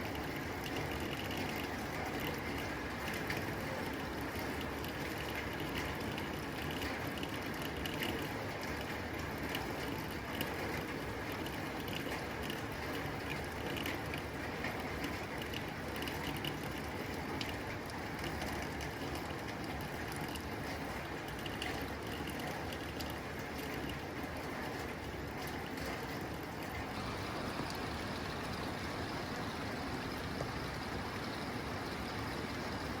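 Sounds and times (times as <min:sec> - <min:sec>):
rain on a tin roof: 0:00.0 - 0:33.0.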